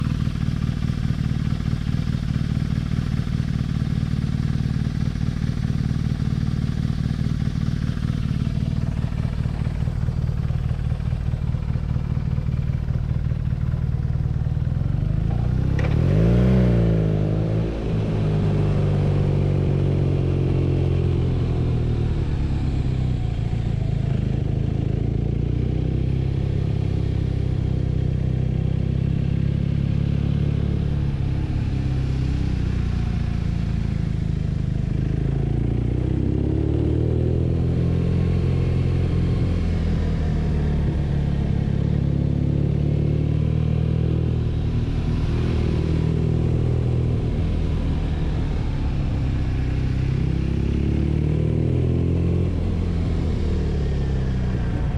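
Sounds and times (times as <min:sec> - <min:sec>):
motorcycle engine running and revving: 0:00.0 - 0:54.9.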